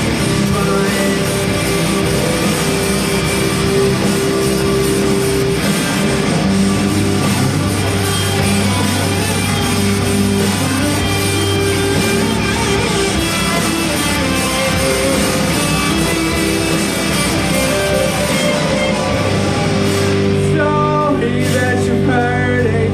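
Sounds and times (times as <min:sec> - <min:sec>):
live rock band playing: 0:00.0 - 0:22.9.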